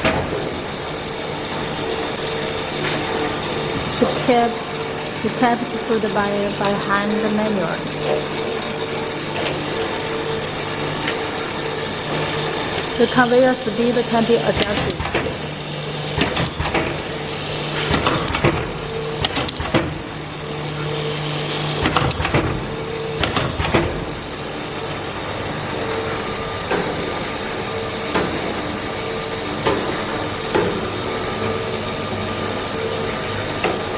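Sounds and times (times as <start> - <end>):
conveyor clicks and knocks: 0.0 - 32.2, 33.0 - 33.9
motor hum: 0.0 - 33.9.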